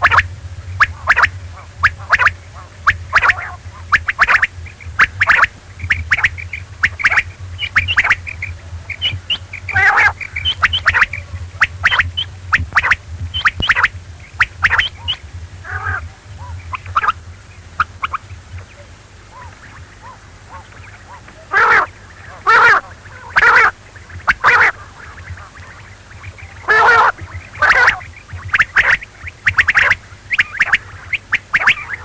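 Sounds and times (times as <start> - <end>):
quail calling: 0.0 - 32.0
steady low hum: 0.0 - 32.0.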